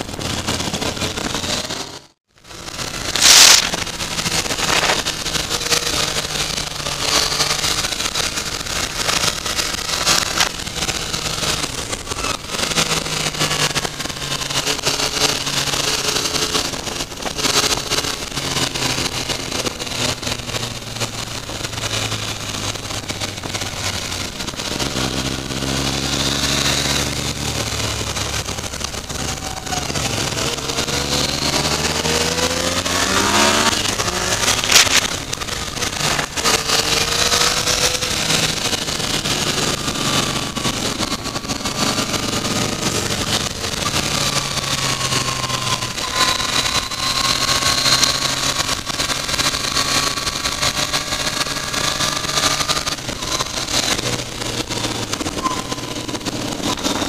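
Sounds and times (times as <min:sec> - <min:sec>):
motorcycle engine accelerating: 0:00.0 - 0:57.0
wind noise on microphone: 0:00.0 - 0:57.0.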